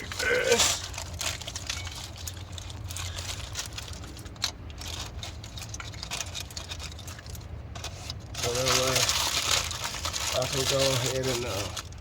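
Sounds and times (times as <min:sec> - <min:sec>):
clicks and rustling of parts: 0:00.0 - 0:12.0.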